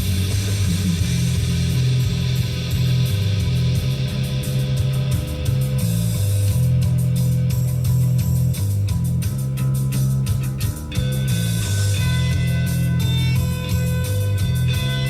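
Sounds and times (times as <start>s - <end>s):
bass line: 0.0s - 15.0s
drum hits: 0.0s - 15.0s
guitar: 0.0s - 15.0s.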